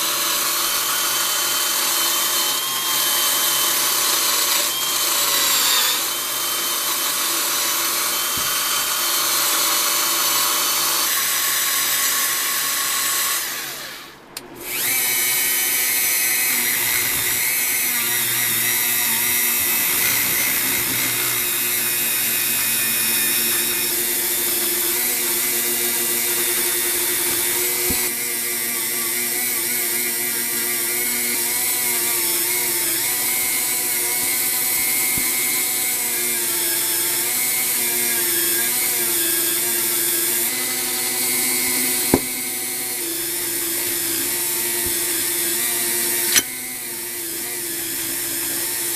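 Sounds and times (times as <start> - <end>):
power drill running: 0.0 - 48.9.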